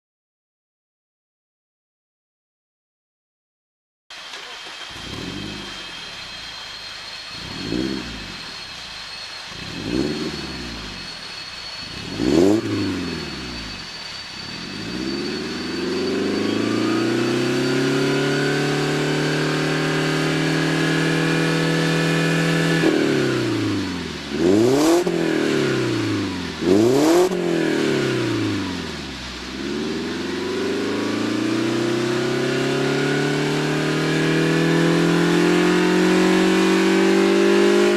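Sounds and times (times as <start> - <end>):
car engine revving: 4.1 - 37.9.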